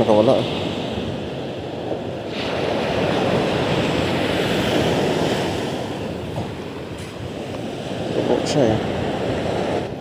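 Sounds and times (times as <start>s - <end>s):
surf washing onto beach: 0.0s - 10.0s.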